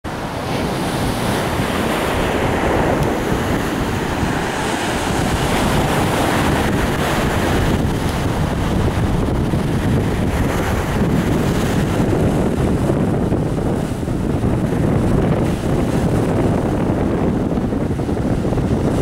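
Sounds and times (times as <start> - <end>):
ocean waves breaking on rocks: 0.1 - 19.0
wind buffeting microphone: 0.1 - 19.0.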